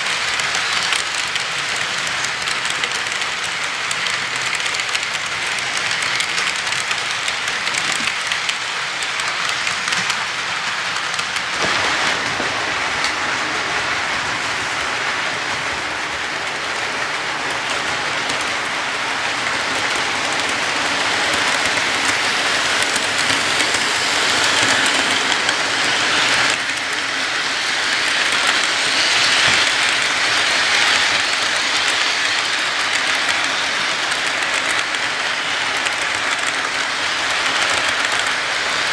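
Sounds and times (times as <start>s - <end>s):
clicking over rail joints: 0.0s - 13.2s, 16.5s - 38.9s
model train wheels rolling on rail: 0.0s - 38.9s.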